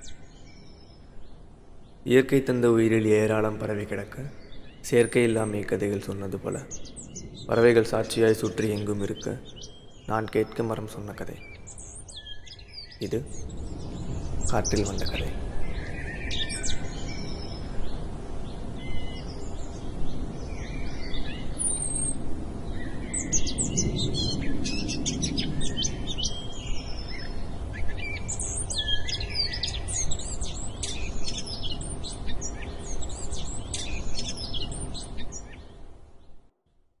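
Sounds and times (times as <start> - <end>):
birds chirping: 0.0 - 36.4.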